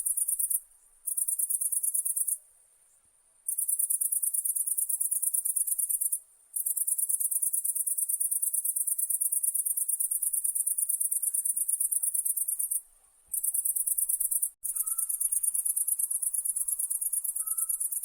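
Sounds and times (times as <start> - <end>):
insects trilling: 3.5 - 18.0.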